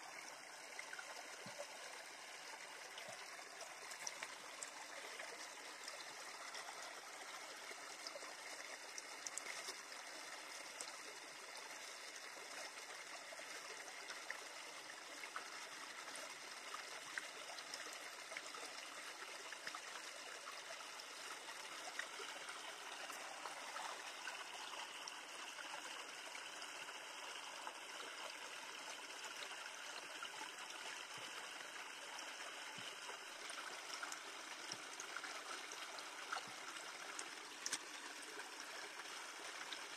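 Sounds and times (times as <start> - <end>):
shallow stream running: 0.0 - 39.9.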